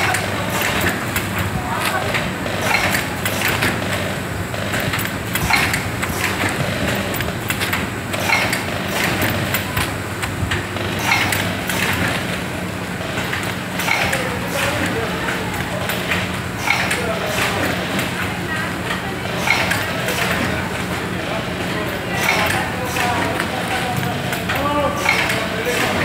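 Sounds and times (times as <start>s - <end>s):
packing machine hum: 0.0s - 26.0s
sharp machine knock: 2.1s - 15.0s, 15.6s - 18.2s, 19.3s - 20.6s, 21.6s - 26.0s.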